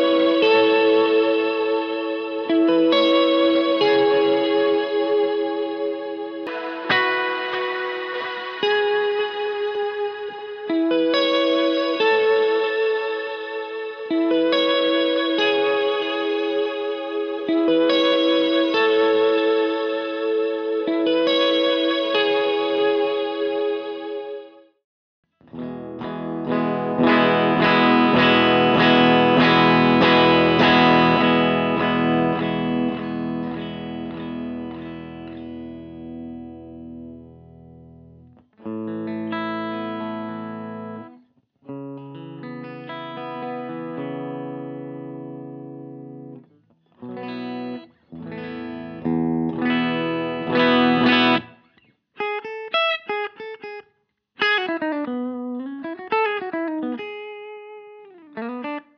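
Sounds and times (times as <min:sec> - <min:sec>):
electric guitar chords: 0:00.0 - 0:24.6, 0:25.4 - 0:53.8, 0:54.4 - 0:58.9
electric guitar picked notes: 0:00.0 - 0:24.6, 0:25.4 - 0:53.8, 0:54.4 - 0:58.9.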